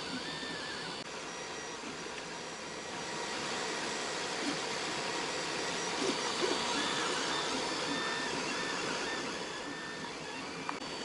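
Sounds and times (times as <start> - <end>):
printer steady whir: 0.0 - 11.0
whining stepper motor tones: 0.0 - 11.0.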